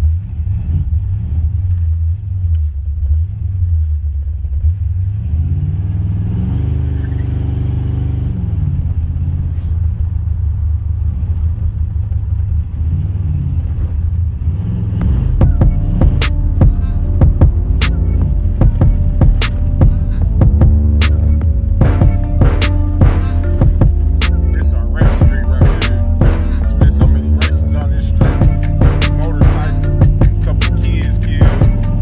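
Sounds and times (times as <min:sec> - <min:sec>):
car engine rumbling while driving: 0:00.0 - 0:32.0.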